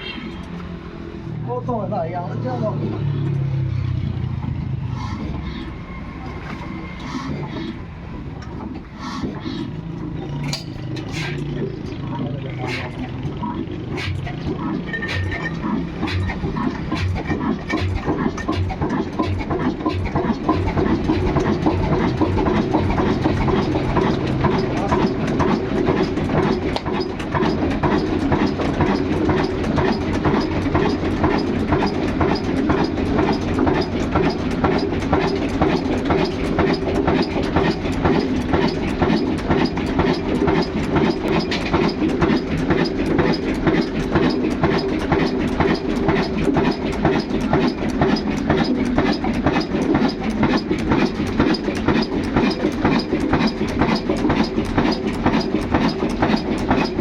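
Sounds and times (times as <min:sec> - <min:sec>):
stationary diesel engine running: 0:00.0 - 0:57.0.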